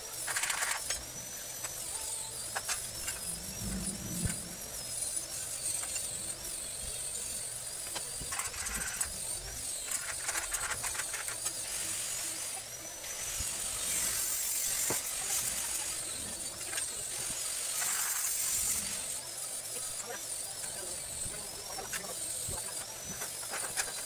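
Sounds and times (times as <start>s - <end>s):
welding arc crackling hiss: 0.0s - 24.0s.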